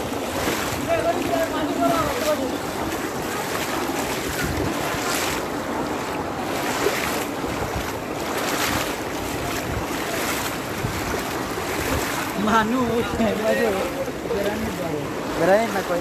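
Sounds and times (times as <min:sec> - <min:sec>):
feet splashing through water: 0:00.0 - 0:16.0
wind buffeting microphone: 0:00.0 - 0:16.0.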